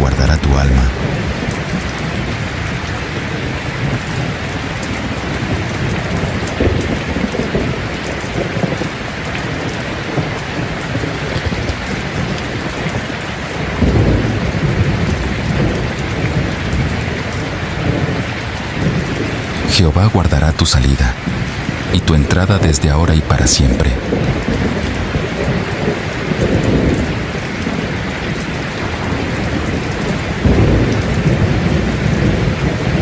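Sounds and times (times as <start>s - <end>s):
rolling thunder: 0.0s - 19.8s, 23.9s - 33.0s
heavy rain: 0.0s - 33.0s.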